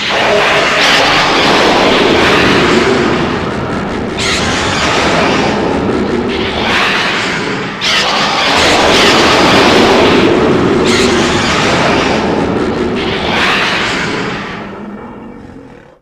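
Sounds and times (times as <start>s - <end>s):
monster explosion-like rush: 0.0s - 15.6s.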